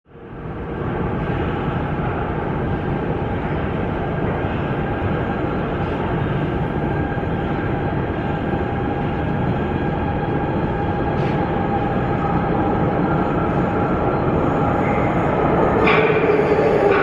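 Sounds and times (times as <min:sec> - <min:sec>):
metro train rumbling: 0:00.1 - 0:17.0.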